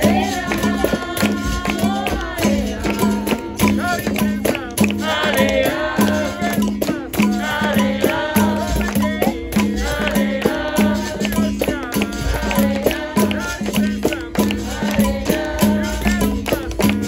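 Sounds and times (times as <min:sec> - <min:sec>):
percussion strokes: 0:00.0 - 0:17.0
shaker rattling: 0:00.0 - 0:17.0
voices singing: 0:00.0 - 0:17.0.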